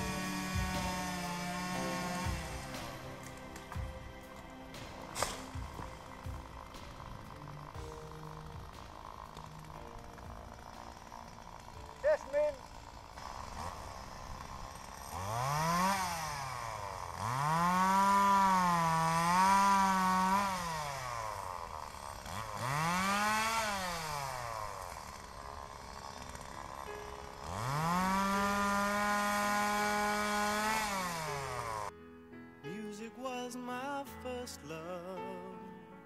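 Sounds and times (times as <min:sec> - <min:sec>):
chainsaw revving: 0:00.0 - 0:31.9.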